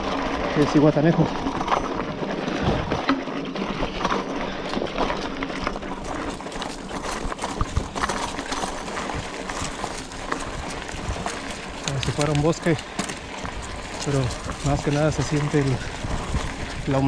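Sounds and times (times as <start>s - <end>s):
bike knocking and rattling: 0.0s - 17.0s
tyres crunching on gravel: 0.0s - 17.0s.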